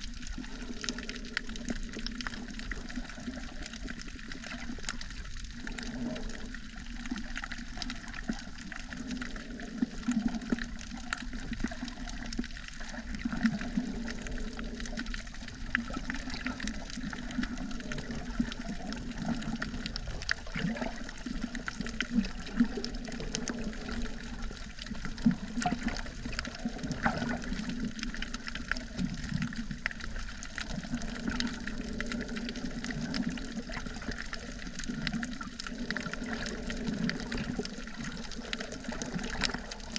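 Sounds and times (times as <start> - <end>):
small clicks and ticks: 0.0 - 39.9
underwater water churning: 0.0 - 39.9.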